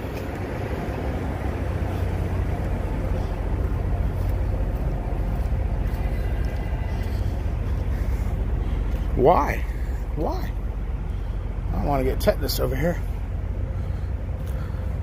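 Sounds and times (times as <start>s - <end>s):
diesel truck engines idling: 0.0s - 15.0s.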